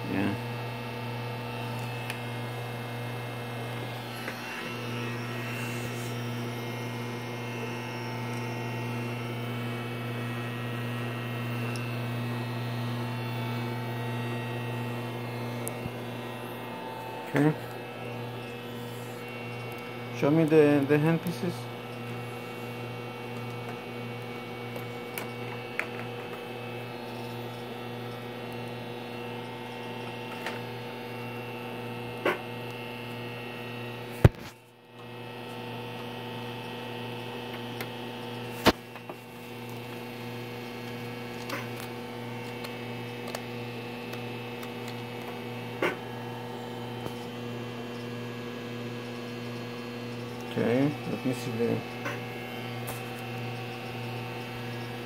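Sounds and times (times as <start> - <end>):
laser console electrical hum: 0.0 - 55.0.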